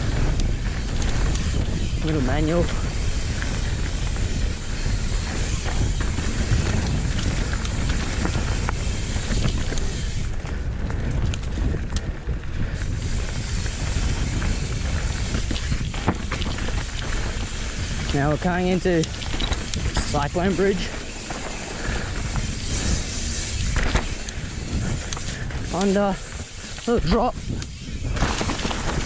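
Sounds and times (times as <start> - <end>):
bike rattling and knocking: 0.0 - 29.0
tyre and wind noise: 0.0 - 29.0.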